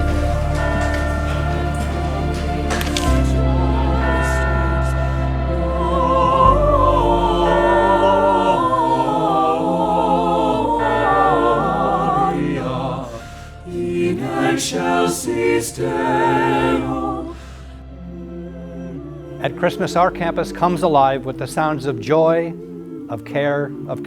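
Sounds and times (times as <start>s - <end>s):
choir singing held notes: 0.0s - 24.0s
low accompaniment: 0.0s - 24.0s.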